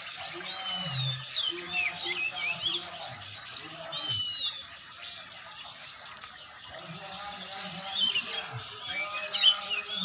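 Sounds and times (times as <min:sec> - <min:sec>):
bird singing whistled notes: 0:00.4 - 0:10.0.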